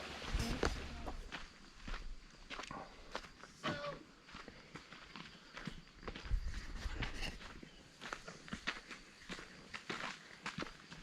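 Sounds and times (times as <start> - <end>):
footsteps crunching on dirt trail: 0.0 - 11.0.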